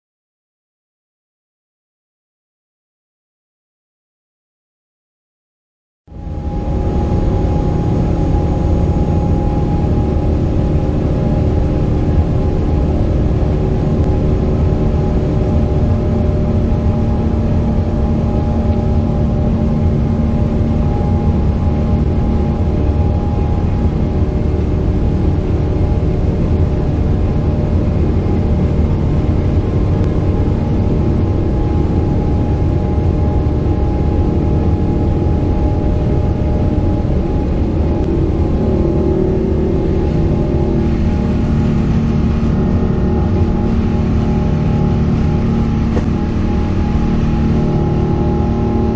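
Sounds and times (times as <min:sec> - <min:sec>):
steady humming tones: 0:06.1 - 0:48.9
moving vehicle rumble: 0:06.5 - 0:48.9.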